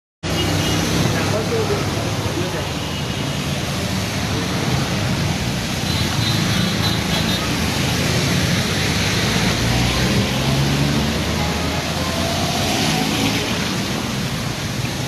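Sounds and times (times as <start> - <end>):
water wash and tyre hiss: 0.3 - 15.0.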